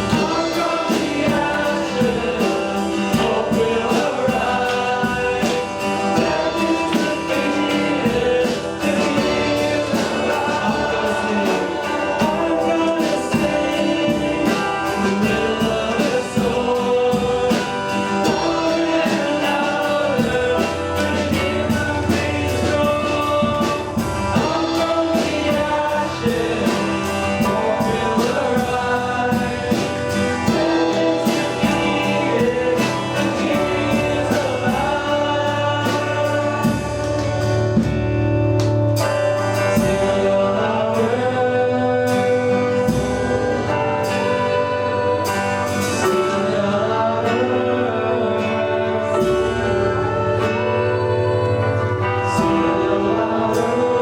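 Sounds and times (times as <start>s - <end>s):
instrumental accompaniment: 0.0s - 54.0s
voices singing worship song: 0.0s - 54.0s.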